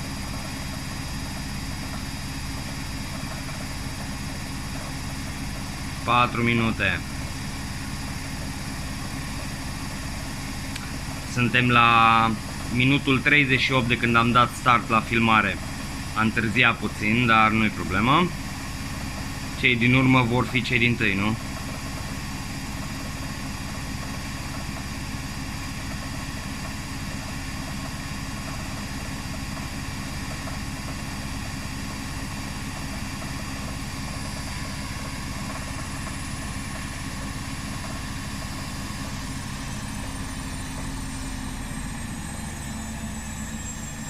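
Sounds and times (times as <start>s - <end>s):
washing machine spinning: 0.0s - 44.0s.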